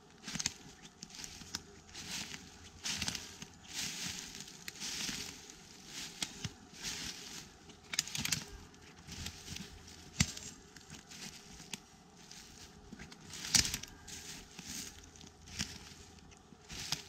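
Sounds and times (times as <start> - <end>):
woodland debris rustling and snapping: 0.1 - 17.0.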